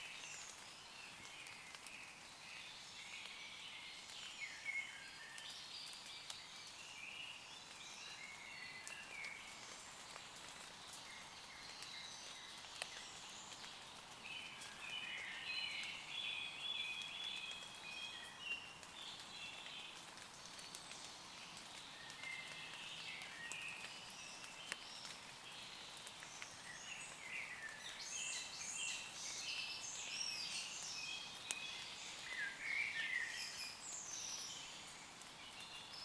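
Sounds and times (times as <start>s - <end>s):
rain dripping on leaves: 0.0s - 36.0s
songbirds singing: 0.0s - 36.0s.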